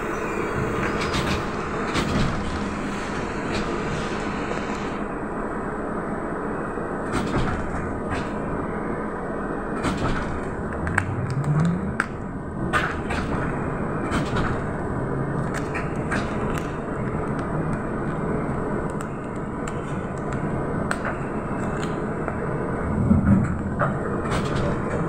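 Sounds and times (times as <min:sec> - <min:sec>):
trolleybus cabin rumble: 0:00.0 - 0:25.0.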